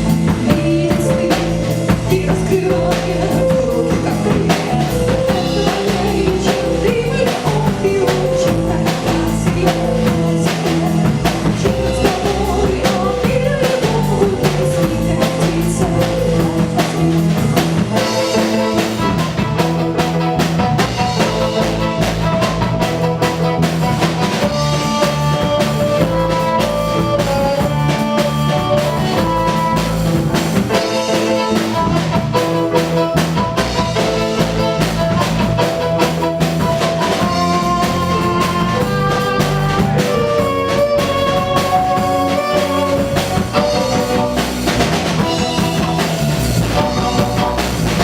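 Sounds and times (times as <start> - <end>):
drum kit: 0.0 - 48.0
guitar: 0.0 - 48.0
melody in long held notes: 0.0 - 48.0.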